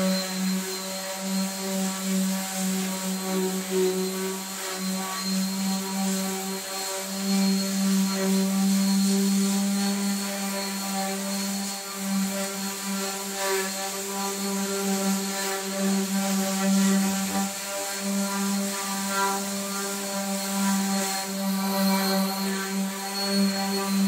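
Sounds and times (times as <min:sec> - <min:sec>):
orbital sander on wood: 0:00.0 - 0:24.0.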